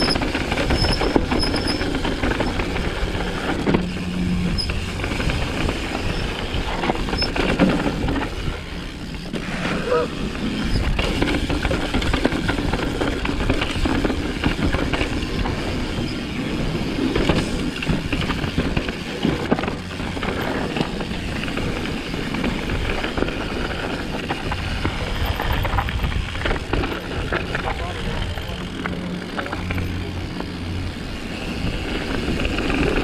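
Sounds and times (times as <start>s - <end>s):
bike chain and frame rattling: 0.0s - 33.0s
bike tyres rolling on gravel: 0.0s - 33.0s
wind rumble on microphone: 0.0s - 33.0s.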